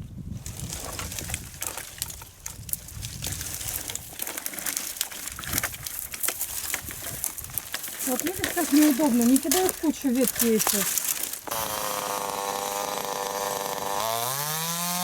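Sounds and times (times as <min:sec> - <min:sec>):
branches crackling and rustling: 0:00.0 - 0:15.0.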